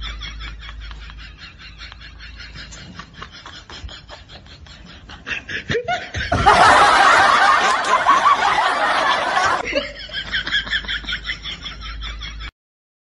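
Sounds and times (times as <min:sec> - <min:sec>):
woman laughing: 0:00.0 - 0:12.5.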